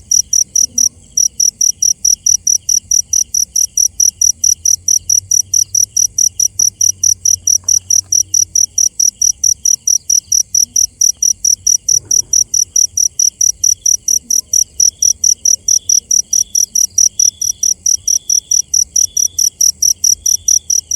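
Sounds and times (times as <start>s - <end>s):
crickets chirping: 0.0s - 20.9s
lower insect call: 0.0s - 20.9s.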